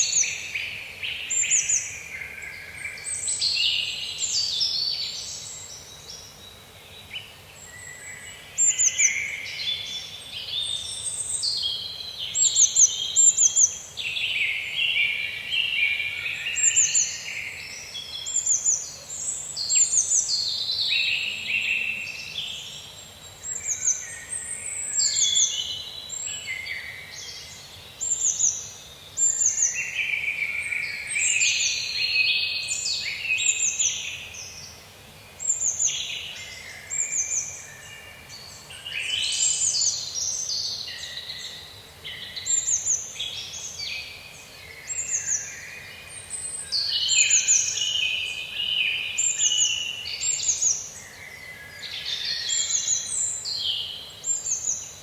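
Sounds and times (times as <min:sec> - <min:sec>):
birds singing: 0:00.0 - 0:55.0
faint background hiss: 0:00.0 - 0:55.0.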